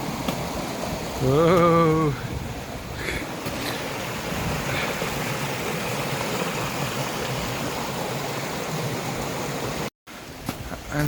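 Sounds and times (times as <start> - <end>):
stream running water: 0.0 - 11.0.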